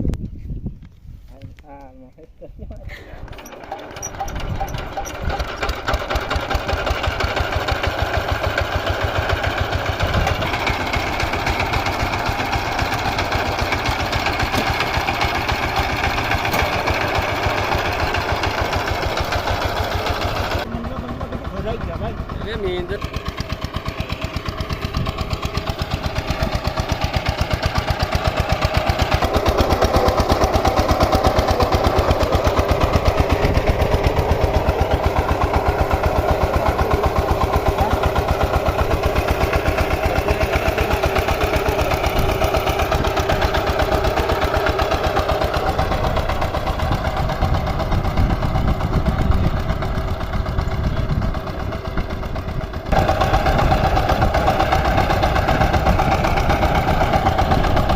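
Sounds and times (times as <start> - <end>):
diesel engine running: 2.9 - 57.9.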